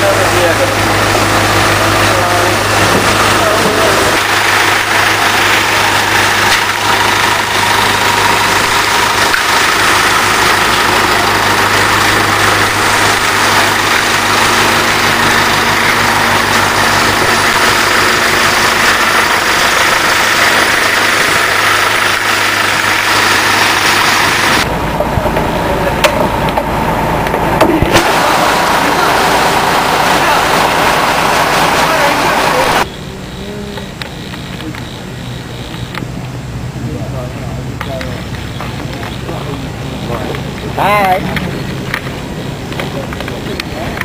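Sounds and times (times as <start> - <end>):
bus engine running: 0.0 - 44.0.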